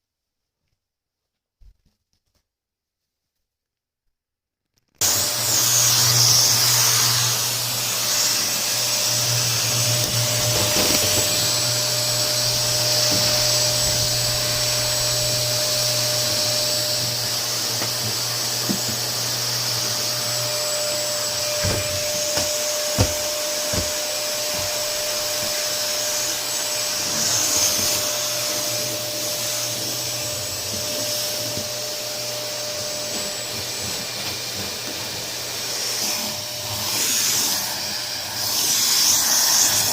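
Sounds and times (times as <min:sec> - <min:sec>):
vacuum cleaner running: 0:05.0 - 0:39.9.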